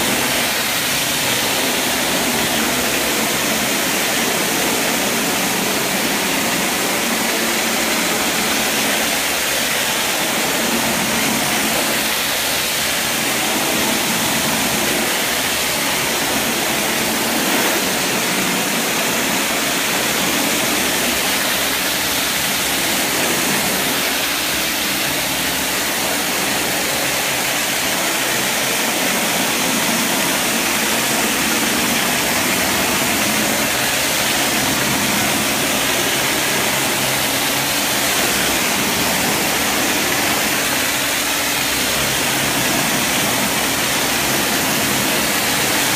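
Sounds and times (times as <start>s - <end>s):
water jets spraying: 0.0s - 45.9s.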